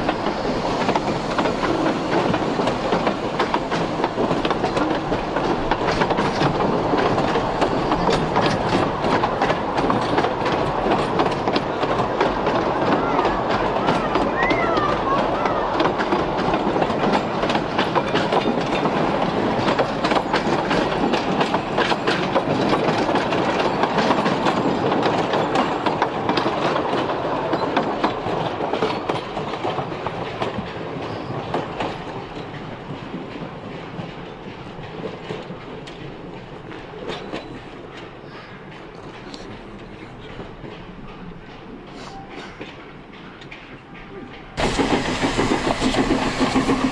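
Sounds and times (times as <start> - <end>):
train wheels clattering on rails: 0.0 - 46.9.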